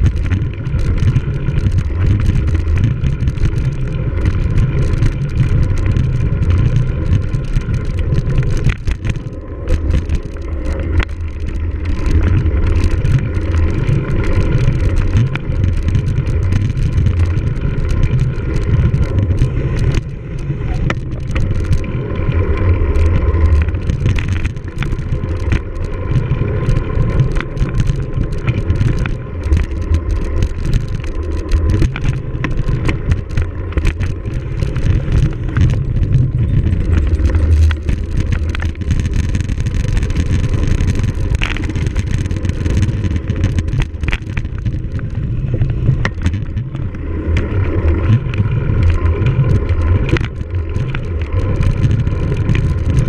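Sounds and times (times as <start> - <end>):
bike chain and frame rattling: 0.0 - 53.0
wind rushing over microphone: 0.0 - 53.0.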